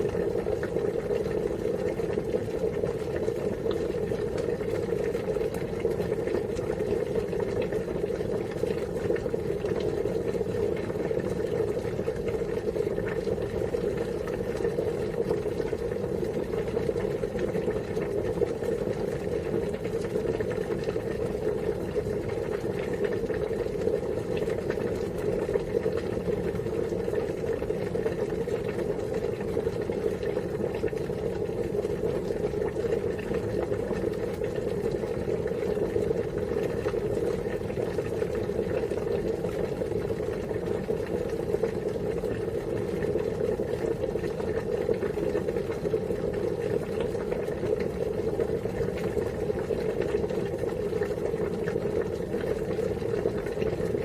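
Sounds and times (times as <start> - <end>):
water boiling: 0.0 - 54.0.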